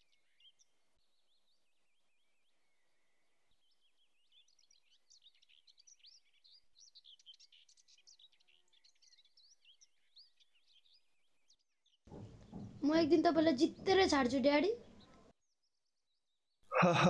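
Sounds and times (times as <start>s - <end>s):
birds twittering: 0.0s - 16.4s.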